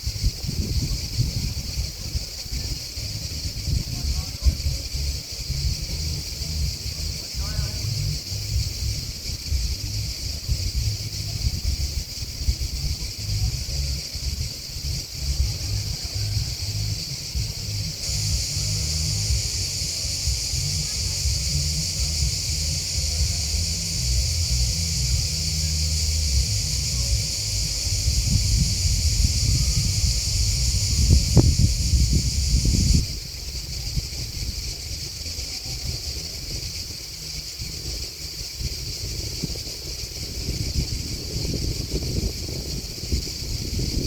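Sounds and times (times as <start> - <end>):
high-pitched insect chorus: 0.0 - 44.0
wind rumble on microphone: 0.0 - 44.0.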